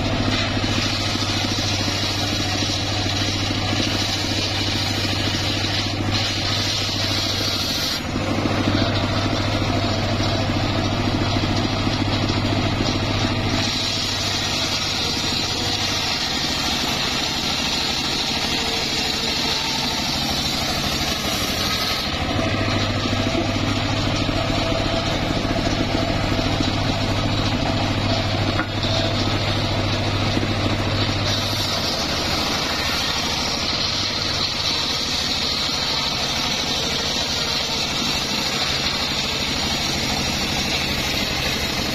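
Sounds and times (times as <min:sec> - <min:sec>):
saw blade rasping through log: 0:00.0 - 0:41.9
sawmill machine hum: 0:00.0 - 0:41.9.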